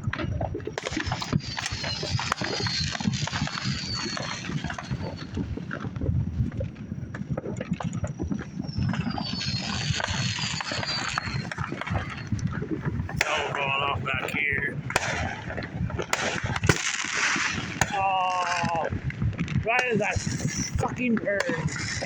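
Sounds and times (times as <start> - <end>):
fireworks pops and bangs: 0.0 - 22.0
low rumble: 0.0 - 22.0
falling firework whistles: 0.1 - 6.7, 7.6 - 22.0.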